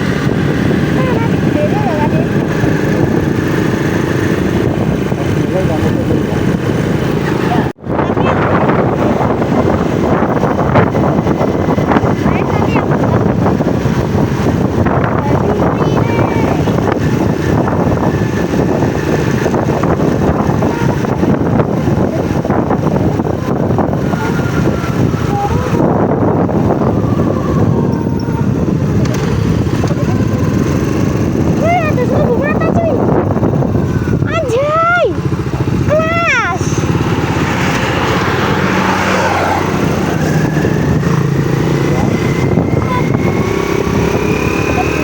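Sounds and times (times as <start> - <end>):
vehicle rumble: 0.0 - 45.0
wind buffeting microphone: 0.0 - 45.0
people's voices: 0.6 - 10.5, 11.9 - 13.3, 14.2 - 17.6, 18.8 - 27.0, 27.7 - 45.0.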